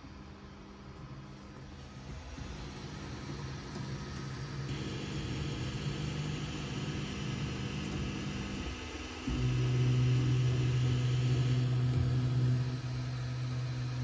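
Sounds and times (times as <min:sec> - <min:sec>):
three d printer motors and fans humming: 0:00.0 - 0:14.0.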